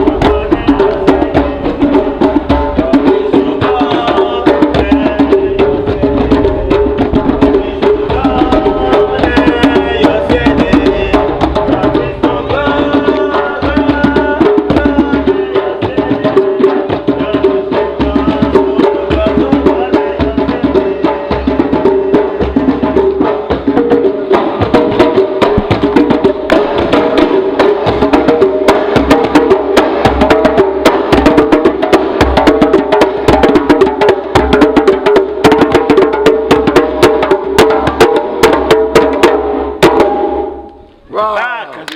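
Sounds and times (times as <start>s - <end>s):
djembe and hand percussion: 0.0s - 41.1s.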